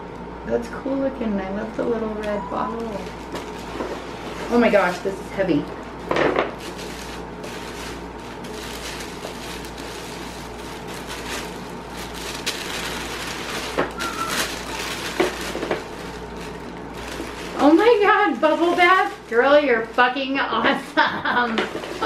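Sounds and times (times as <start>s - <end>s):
wrapping paper rustling: 1.8s - 22.0s.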